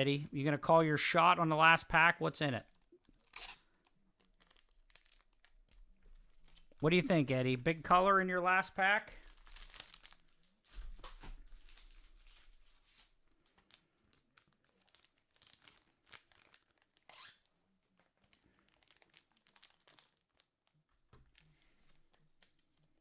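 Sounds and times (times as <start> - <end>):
foil wrapper crinkling: 2.6 - 23.0.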